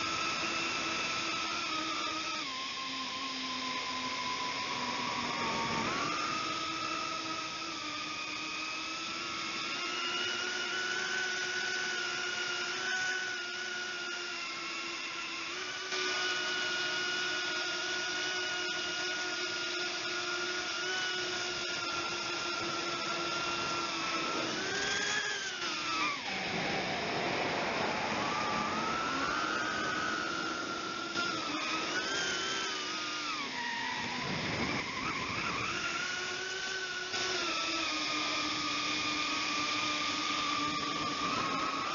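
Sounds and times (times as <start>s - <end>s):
drone propellers whining: 0.0s - 41.9s.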